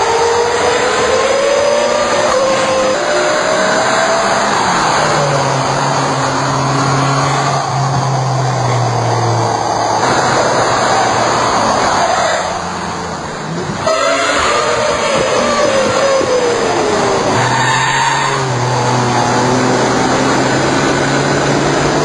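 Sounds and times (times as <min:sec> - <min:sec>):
sports car engine running hard: 0:00.0 - 0:22.0.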